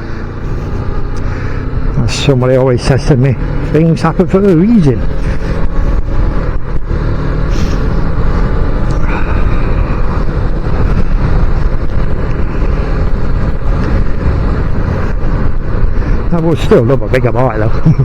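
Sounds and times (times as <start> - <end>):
high engine whine: 0.0 - 18.0
motorcycle engine running: 0.0 - 18.0
wind rush over microphone: 0.0 - 18.0.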